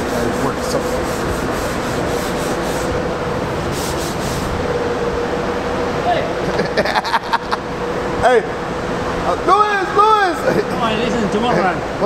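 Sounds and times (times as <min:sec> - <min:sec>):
steady shop hum: 0:00.0 - 0:12.0.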